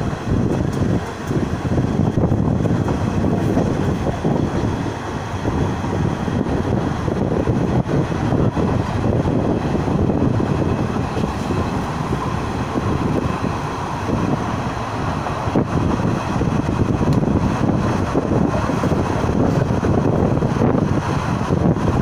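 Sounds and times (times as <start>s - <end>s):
train wheels rumbling on rails: 0.0s - 22.0s
wind buffeting microphone: 0.0s - 22.0s.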